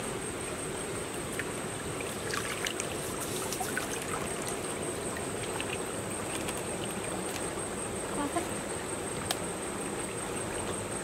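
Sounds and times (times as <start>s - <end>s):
stream water splashing and dripping: 0.8s - 11.0s.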